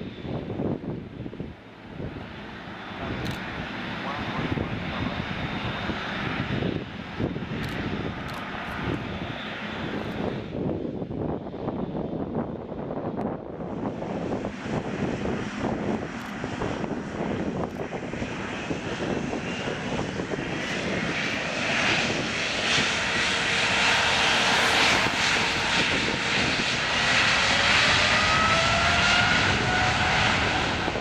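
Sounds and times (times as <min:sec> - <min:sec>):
jet engines running: 0:00.0 - 0:31.0
rising engine whine: 0:00.0 - 0:31.0.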